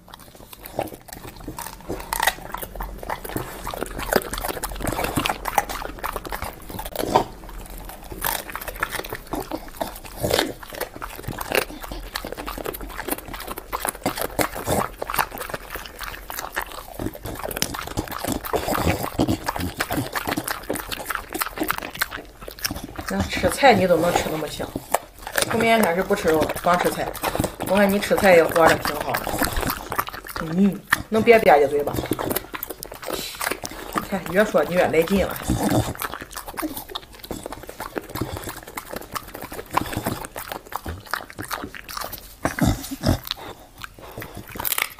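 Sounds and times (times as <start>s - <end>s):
dog crunching cauliflower: 0.0s - 44.9s.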